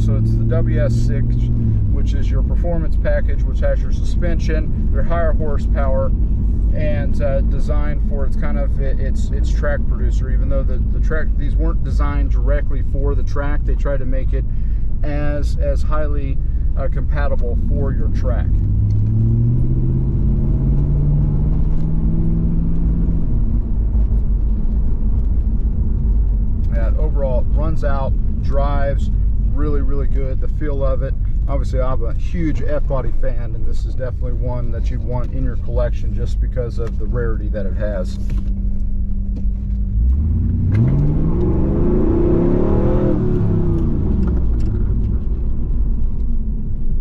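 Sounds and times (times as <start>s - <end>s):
car engine deep rumble: 0.0s - 47.0s.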